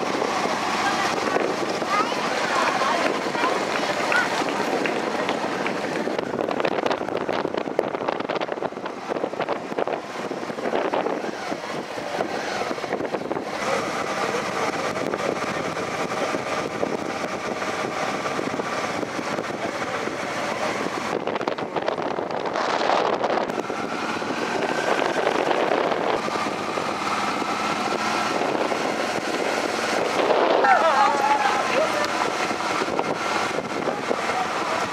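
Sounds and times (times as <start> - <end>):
wind on microphone: 0.0 - 13.6, 14.7 - 34.9
road noise: 0.0 - 34.9.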